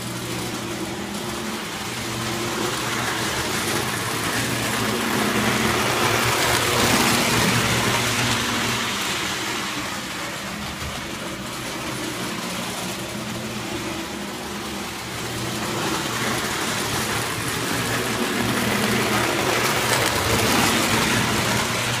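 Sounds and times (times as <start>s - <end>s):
electric motor hum: 0.0s - 22.0s
toy train rattling on metal track: 0.0s - 22.0s.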